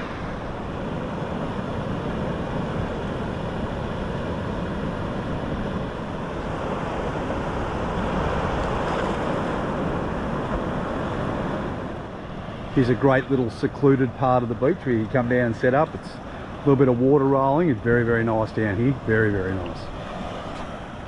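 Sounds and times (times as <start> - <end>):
small waves washing over sand: 0.0 - 21.0
wind buffeting microphone: 0.0 - 21.0.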